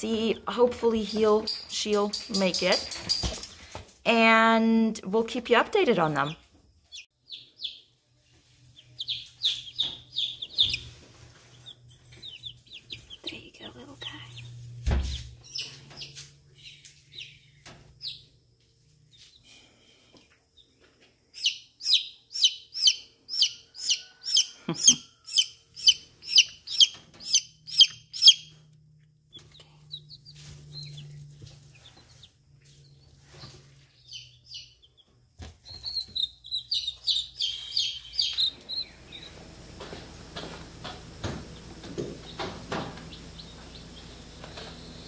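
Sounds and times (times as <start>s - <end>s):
chicks peeping: 6.0s - 14.6s, 15.4s - 18.6s, 20.2s - 28.7s, 29.3s - 45.0s.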